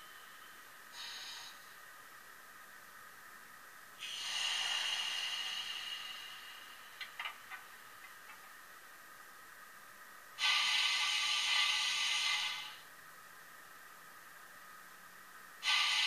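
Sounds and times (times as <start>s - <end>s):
faint steady hum: 0.0s - 16.0s
loud hiss from speaker: 0.0s - 16.0s.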